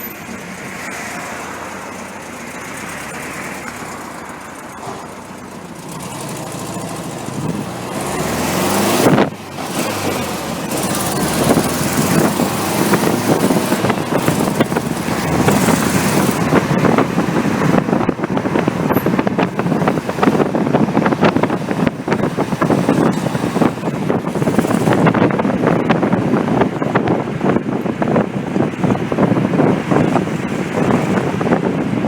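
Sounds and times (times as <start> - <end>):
engine with rasping exhaust: 0.0 - 32.0.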